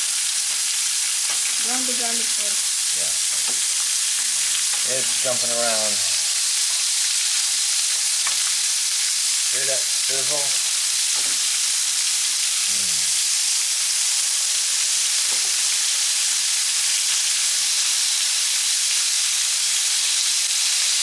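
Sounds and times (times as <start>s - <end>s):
garlic sizzling in a pan: 0.0s - 21.0s.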